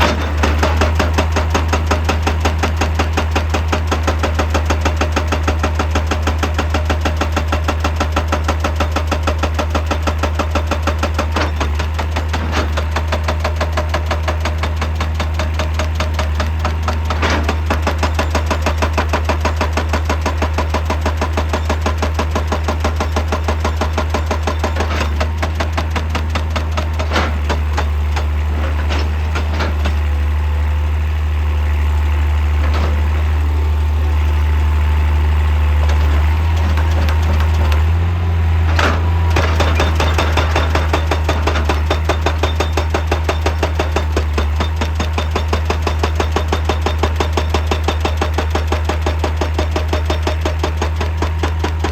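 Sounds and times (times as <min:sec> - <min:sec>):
excavator diesel engine running: 0:00.0 - 0:51.9
hydraulic rock breaker hammering: 0:00.0 - 0:51.9.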